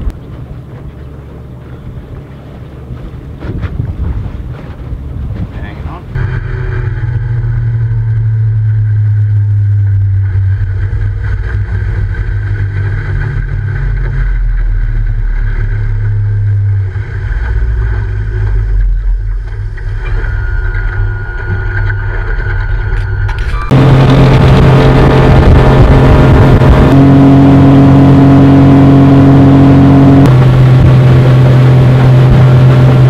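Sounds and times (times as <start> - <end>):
outboard motor running at speed: 0.0 - 33.0
water rushing from hull and wake: 0.0 - 33.0.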